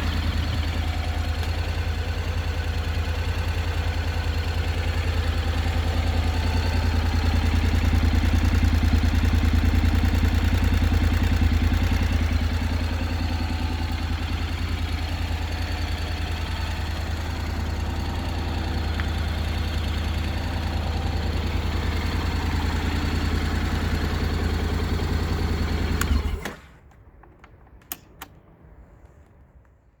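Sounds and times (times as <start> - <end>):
motorcycle engine idling: 0.0 - 26.4.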